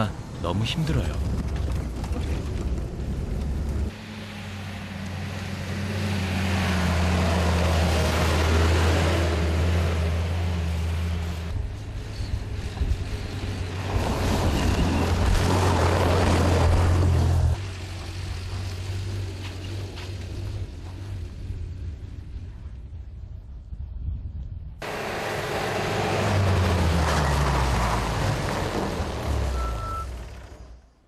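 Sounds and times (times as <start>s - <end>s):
minibus engine droning: 0.0s - 23.1s, 24.8s - 31.0s
tyre and road noise: 0.0s - 23.9s, 24.6s - 31.0s.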